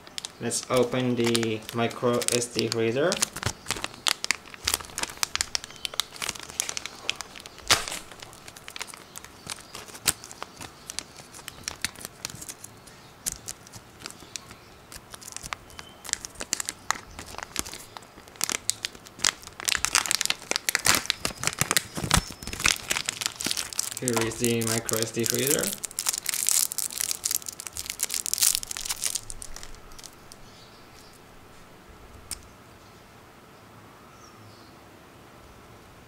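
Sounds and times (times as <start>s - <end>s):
plastic bag snap: 0.0s - 12.6s, 13.2s - 30.4s
plastic bag crinkling: 0.0s - 31.4s.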